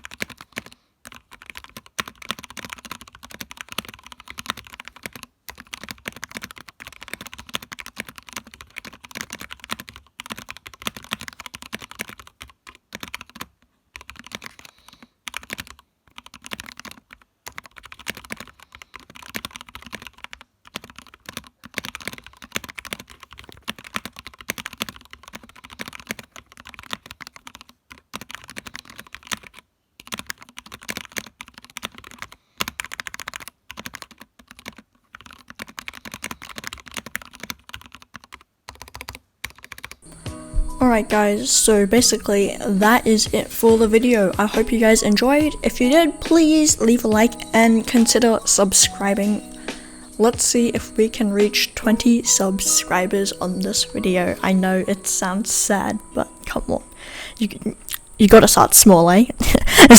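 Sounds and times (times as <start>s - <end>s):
mechanical keyboard typing: 0.0s - 59.6s.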